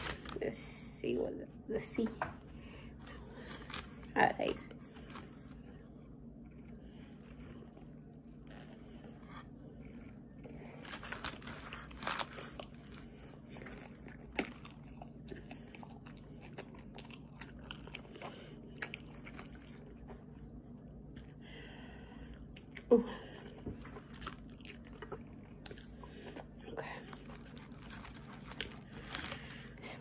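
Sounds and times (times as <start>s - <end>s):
person chewing crispy food: 2.9s - 30.0s.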